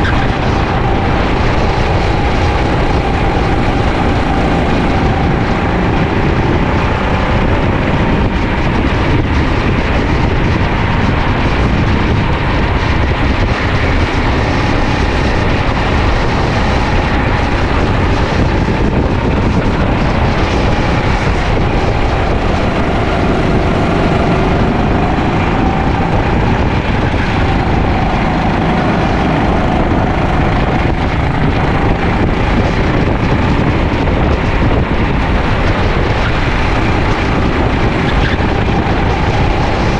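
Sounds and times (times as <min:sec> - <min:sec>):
go-kart engine at racing speed: 0:00.0 - 0:39.9
road rumble: 0:00.0 - 0:39.9
wind: 0:00.0 - 0:39.9.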